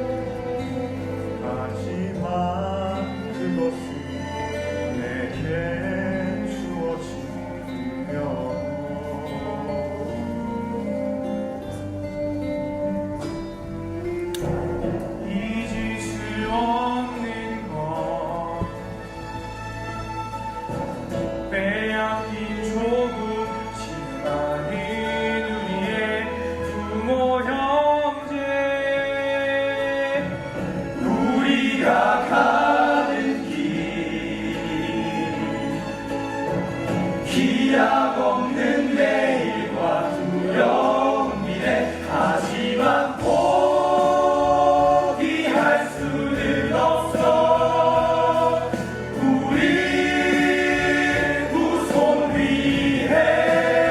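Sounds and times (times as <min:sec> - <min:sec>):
voices singing in harmony: 0:00.0 - 0:12.1, 0:13.4 - 0:53.9
instrumental accompaniment with bass: 0:00.0 - 0:53.9.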